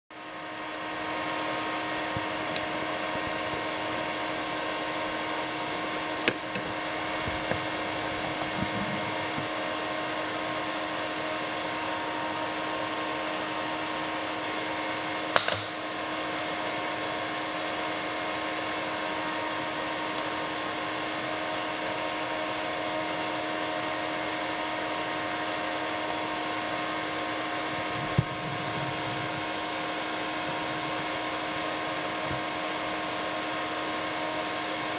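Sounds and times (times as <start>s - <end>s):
hum with fan noise: 0.1s - 34.9s
water boiling vigorously: 0.2s - 34.9s.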